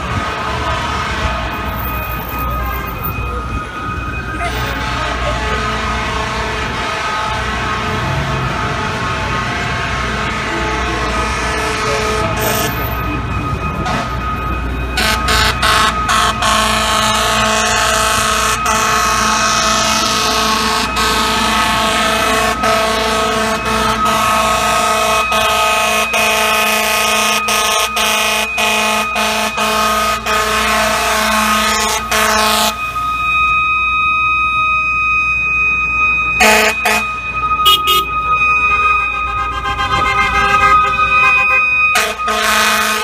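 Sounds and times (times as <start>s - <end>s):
fire truck air horn blast: 0.0s - 1.8s, 4.4s - 12.8s, 15.0s - 33.0s, 36.4s - 43.0s
siren: 0.0s - 43.0s.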